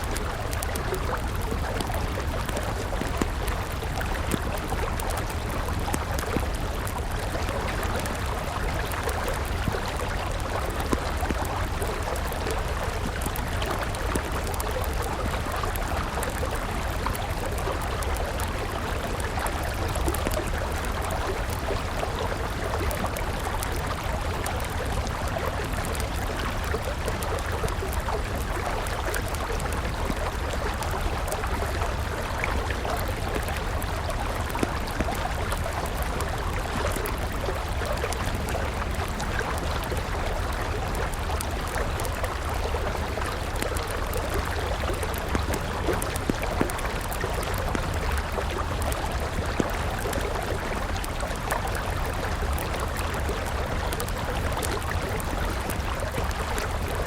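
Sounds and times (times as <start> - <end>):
campfire crackling: 0.0 - 57.0
river flowing: 0.0 - 57.0.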